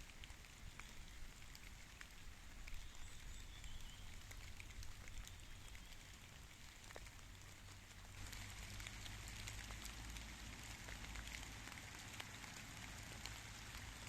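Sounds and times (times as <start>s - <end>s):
light rain hissing: 0.0s - 14.0s
raindrops ticking: 0.0s - 14.0s.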